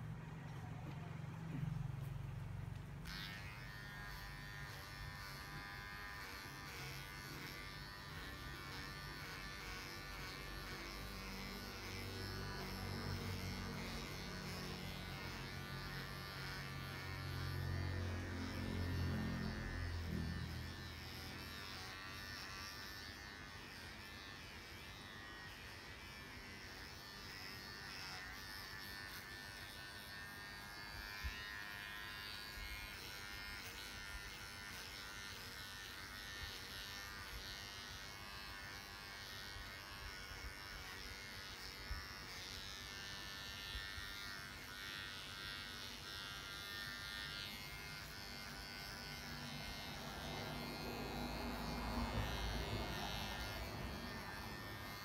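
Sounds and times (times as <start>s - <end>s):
electric clippers running: 0.0s - 55.0s.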